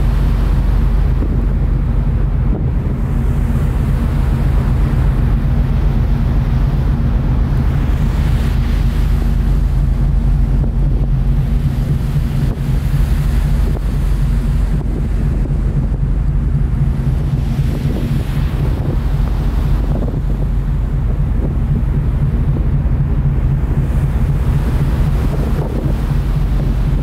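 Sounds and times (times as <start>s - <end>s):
ferry engines droning: 0.0s - 27.0s
sea washing along hull: 0.0s - 27.0s
wind on microphone: 0.0s - 27.0s.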